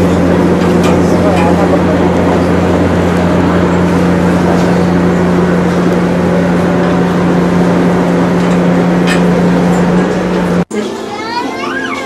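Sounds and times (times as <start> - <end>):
ship machinery droning: 0.0 - 12.0.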